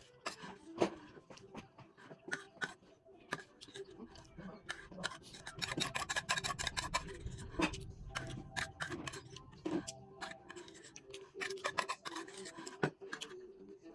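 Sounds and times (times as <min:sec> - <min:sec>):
chewing crunchy vegetables: 0:00.0 - 0:13.9.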